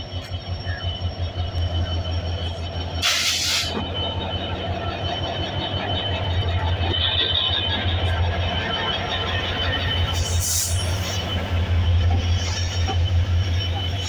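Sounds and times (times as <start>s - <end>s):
diesel locomotive rumbling past: 0.0s - 14.0s.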